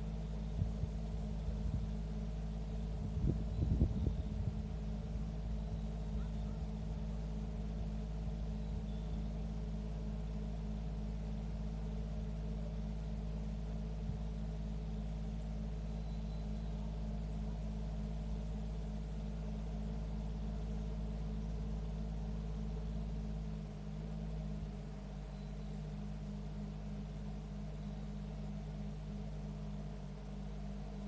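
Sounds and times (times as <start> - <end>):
faint high chirps: 0.0 - 31.0
steady low rumble: 0.0 - 31.0.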